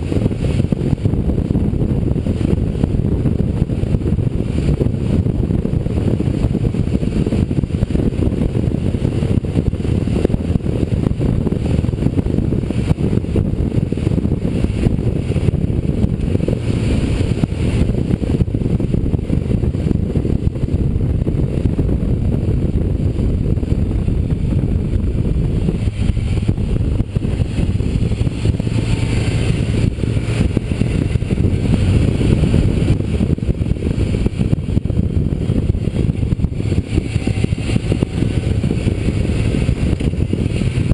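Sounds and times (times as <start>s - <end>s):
heavy wind rumble: 0.0s - 40.9s
motorcycle engine running: 0.0s - 40.9s.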